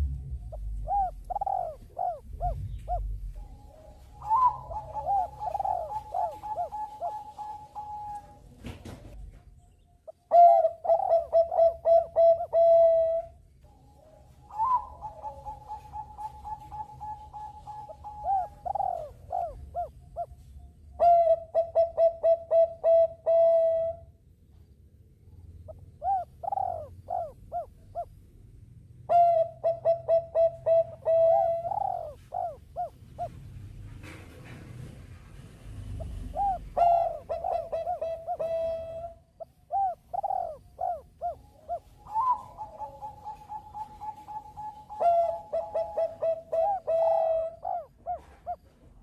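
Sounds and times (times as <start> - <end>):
dove cooing: 0.0 - 9.3, 10.0 - 24.1, 25.6 - 28.3, 29.1 - 34.2, 35.6 - 49.0.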